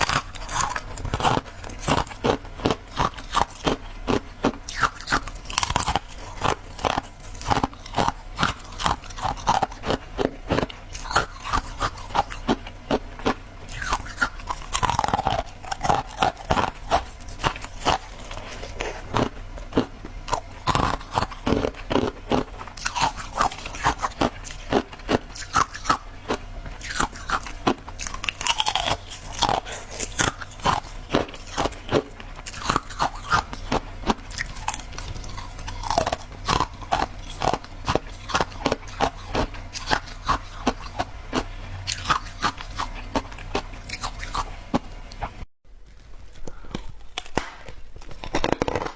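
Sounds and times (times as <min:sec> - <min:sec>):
chewing crunchy shaved ice: 0:00.0 - 0:48.9.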